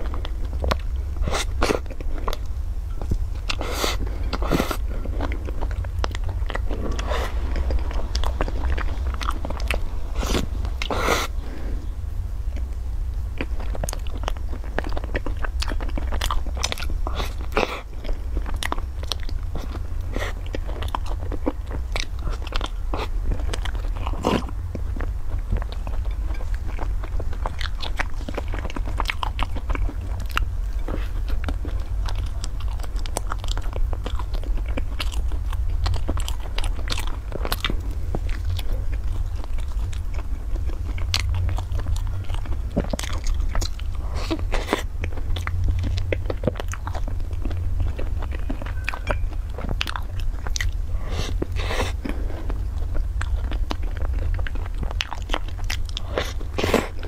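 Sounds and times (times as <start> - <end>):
crunching flaky pastry: 0.0 - 57.0
low hum: 0.0 - 57.0.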